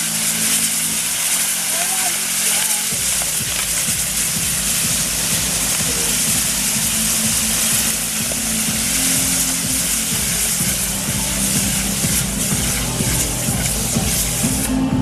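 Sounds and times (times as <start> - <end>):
firework wheels hissing: 0.0 - 15.0
music with low sustained notes: 0.0 - 15.0.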